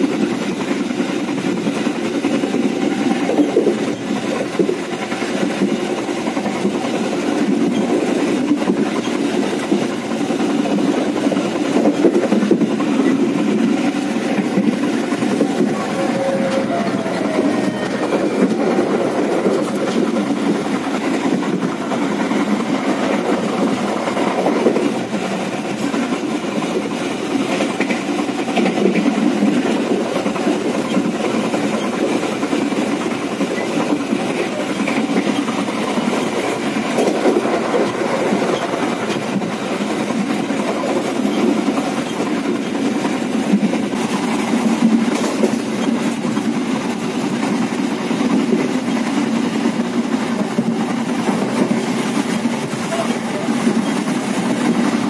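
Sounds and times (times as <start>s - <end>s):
train car rumbling: 0.0s - 55.0s
train wheels on rails: 0.0s - 55.0s.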